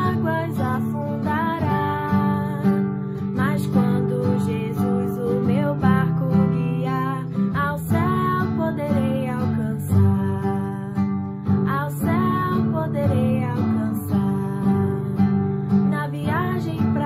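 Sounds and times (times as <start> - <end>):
strummed acoustic guitar: 0.0 - 17.0
woman singing: 0.0 - 17.0.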